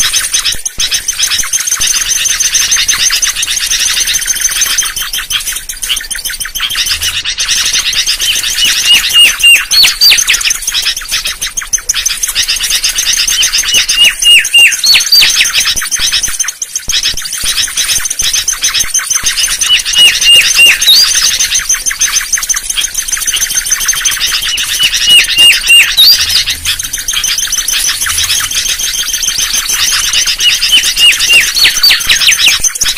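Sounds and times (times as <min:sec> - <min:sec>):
bird whistling with rising upslur: 0:00.0 - 0:32.9
steady high chatter: 0:00.0 - 0:32.9.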